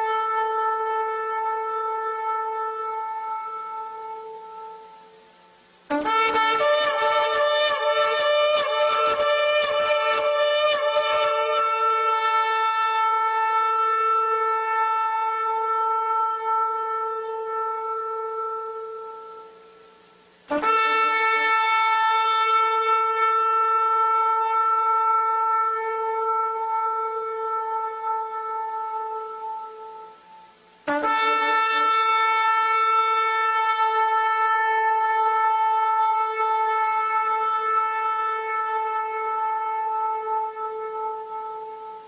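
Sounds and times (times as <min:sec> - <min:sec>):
shofar blasts: 0:00.0 - 0:42.0.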